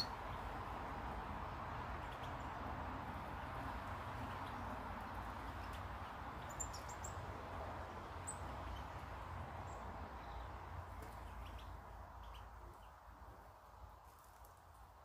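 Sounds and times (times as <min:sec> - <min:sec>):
small birds chirping: 0:00.0 - 0:14.8
outdoor background hiss: 0:00.0 - 0:15.0.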